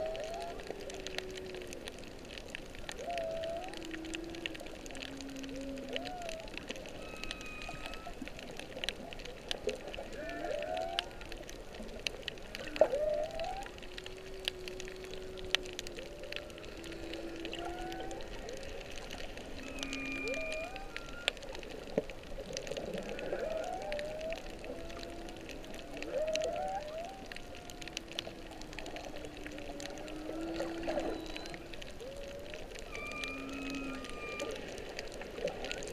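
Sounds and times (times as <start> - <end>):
fine clicks crackling: 0.0 - 35.9
sharp upswept whale call: 0.0 - 35.9
whale song moans and whoops: 0.0 - 35.9.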